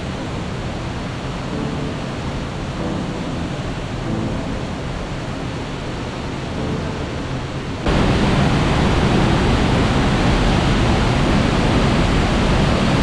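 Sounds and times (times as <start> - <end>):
waterfall rushing: 1.5 - 13.0.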